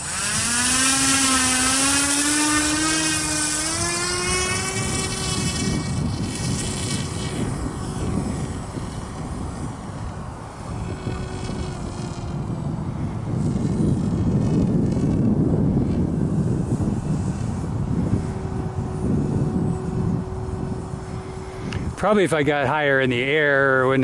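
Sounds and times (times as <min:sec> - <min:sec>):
model plane motor whine: 0:00.0 - 0:24.0
wind rumble on microphone: 0:00.0 - 0:24.0.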